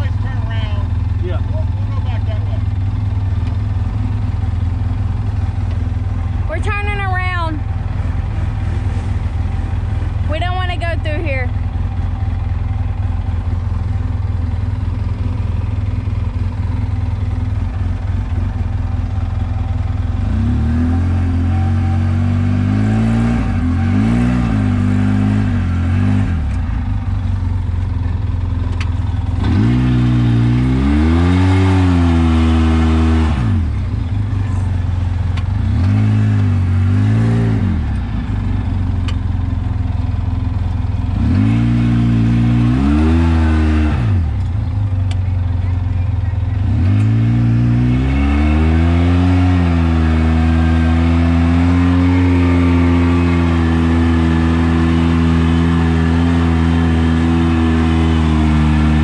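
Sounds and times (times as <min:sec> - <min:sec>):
engine droning and revving: 0:00.0 - 0:59.0.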